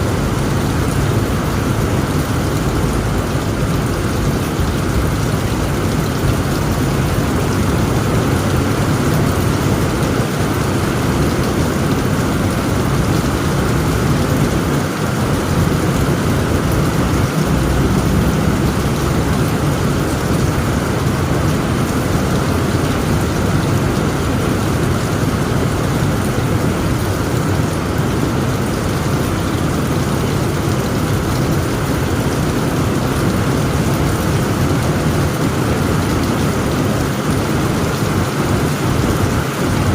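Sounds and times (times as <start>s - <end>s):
heavy rain on a tent roof: 0.0s - 39.9s.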